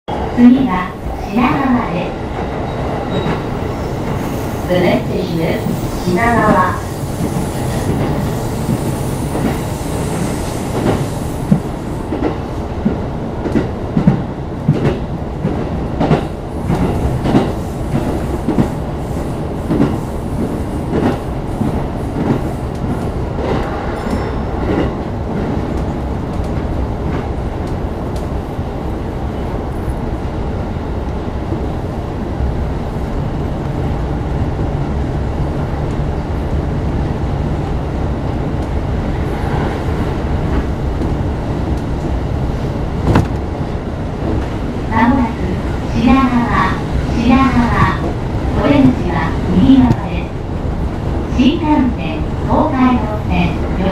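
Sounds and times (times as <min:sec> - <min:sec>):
train rolling rumble: 0:00.1 - 0:53.9.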